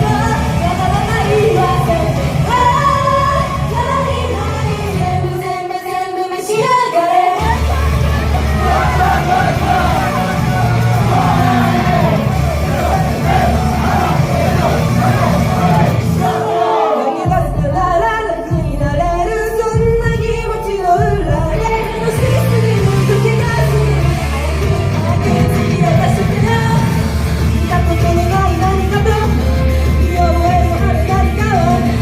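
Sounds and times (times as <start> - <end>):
pop song over sound system: 0.0 - 32.0.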